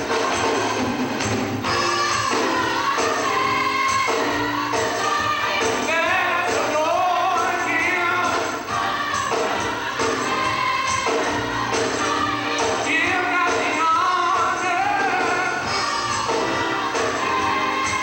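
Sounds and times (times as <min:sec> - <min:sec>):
choir singing gospel song: 0:00.0 - 0:18.0
steady percussive beat: 0:00.0 - 0:18.0.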